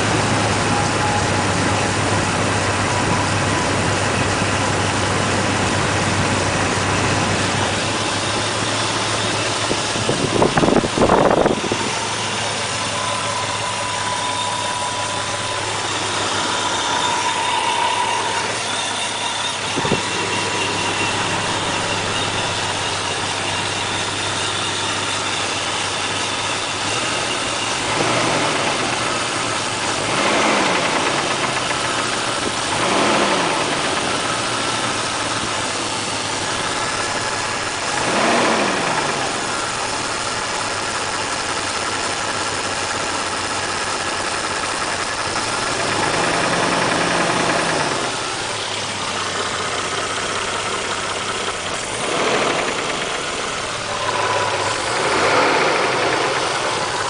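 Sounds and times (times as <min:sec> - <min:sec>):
car engine idling and revving: 0:00.0 - 0:57.0
engine knocking: 0:00.0 - 0:57.0.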